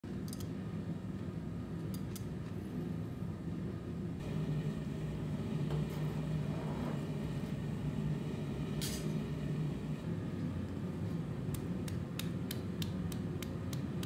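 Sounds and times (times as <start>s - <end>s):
gas forge burner humming: 0.2s - 14.0s.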